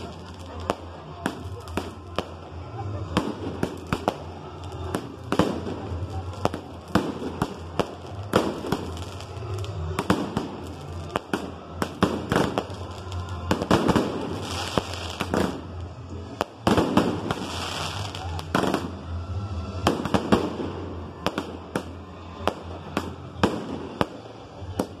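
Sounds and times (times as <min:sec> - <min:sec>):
fireworks bursts and bangs: 0:00.0 - 0:25.0.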